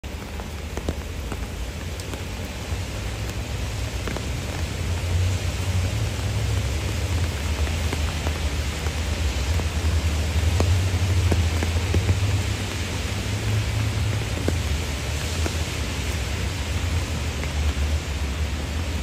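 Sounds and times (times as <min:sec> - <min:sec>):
rain hissing on river: 0:00.0 - 0:19.0.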